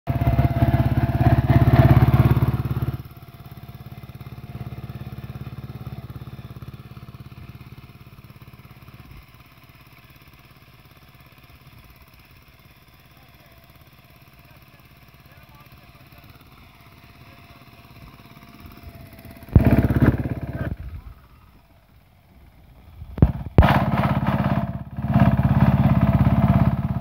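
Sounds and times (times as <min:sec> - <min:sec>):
small petrol engine: 0:00.0 - 0:27.0.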